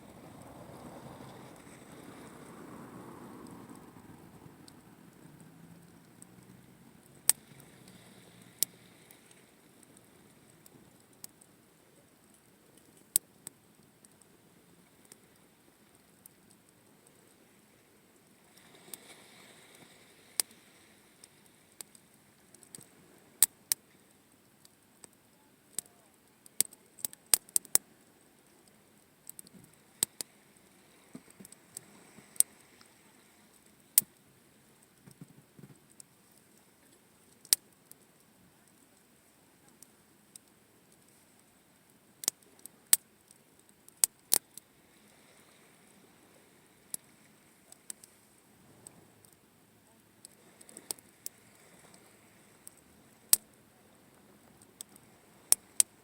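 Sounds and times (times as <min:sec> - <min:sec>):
campfire crackling: 0:00.0 - 0:35.2, 0:35.8 - 0:56.0.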